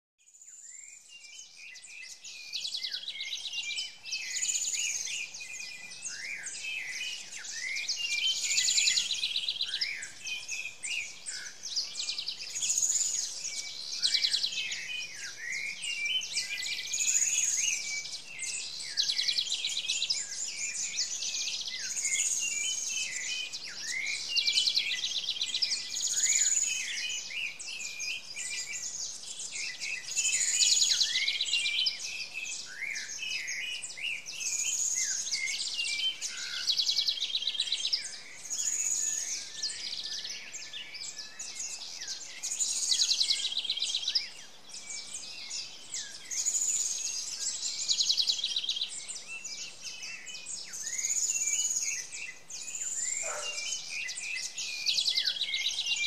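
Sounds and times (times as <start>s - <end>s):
birds singing: 0.2s - 56.0s.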